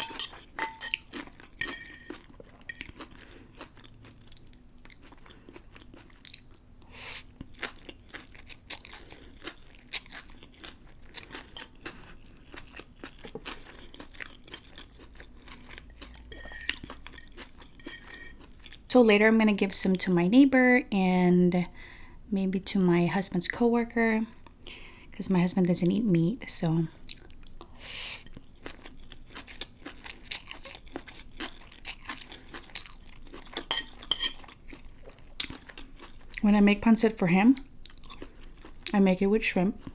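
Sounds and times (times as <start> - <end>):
chewing and crunching food: 0.0 - 18.9, 26.8 - 39.9.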